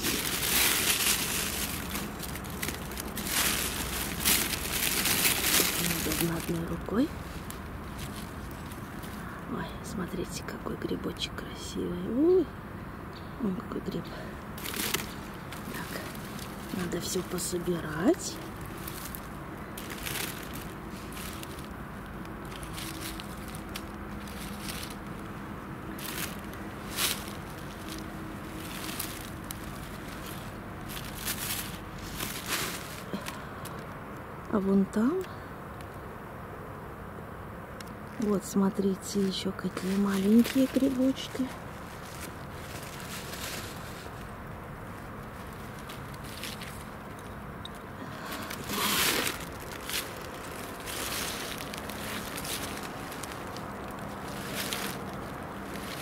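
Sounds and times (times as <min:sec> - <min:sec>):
leaf litter crackling: 0:00.0 - 0:11.0, 0:13.4 - 0:35.9, 0:37.8 - 0:56.0
rustling in dry leaves: 0:00.0 - 0:12.4, 0:13.4 - 0:35.5, 0:37.8 - 0:56.0
distant highway traffic: 0:00.0 - 0:56.0.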